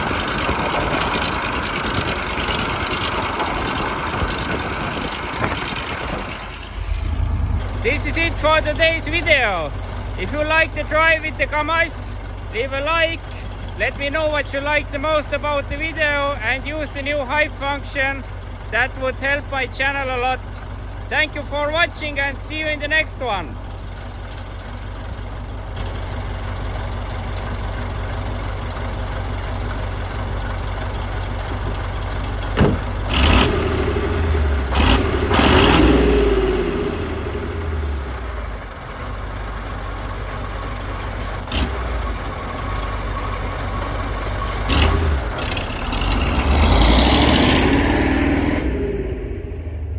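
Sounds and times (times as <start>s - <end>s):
diesel truck engine rumbling: 0.0s - 49.9s.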